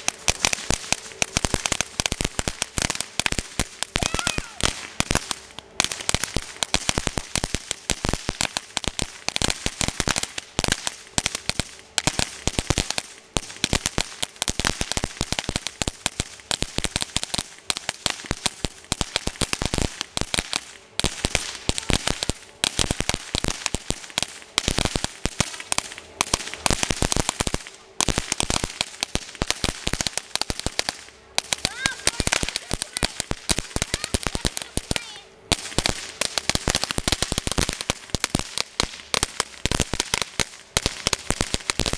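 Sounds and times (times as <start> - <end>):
firecrackers popping: 0.0 - 41.9.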